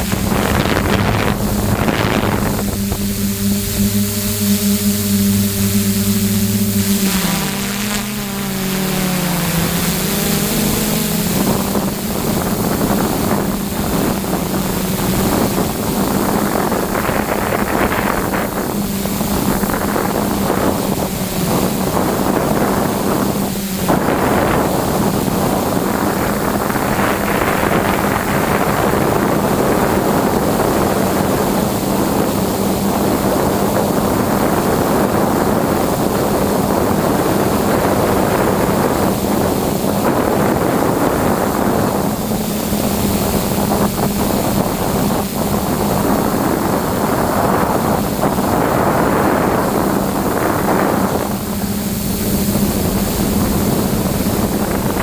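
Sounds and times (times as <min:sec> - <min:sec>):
drone motors and propellers droning: 0:00.0 - 0:55.0
wind noise on microphone: 0:00.0 - 0:55.0.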